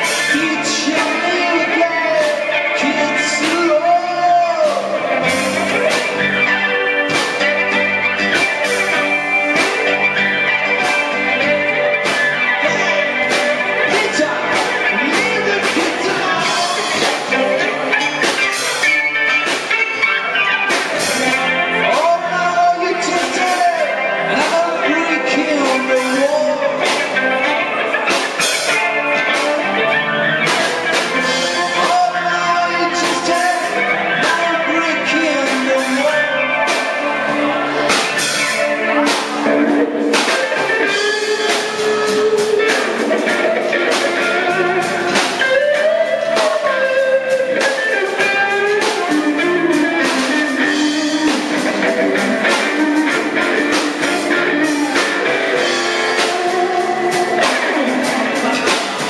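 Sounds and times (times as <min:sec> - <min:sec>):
bass guitar: 0:00.0 - 0:59.0
drum kit: 0:00.0 - 0:59.0
electric guitar: 0:00.0 - 0:59.0
keyboards: 0:00.0 - 0:59.0.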